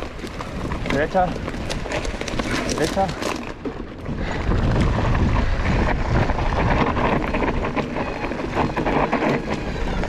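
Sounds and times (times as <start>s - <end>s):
bike rattling over bumps: 0.0s - 10.0s
bike tyres on dirt: 0.0s - 10.0s
wind rumbling on microphone: 0.0s - 10.0s.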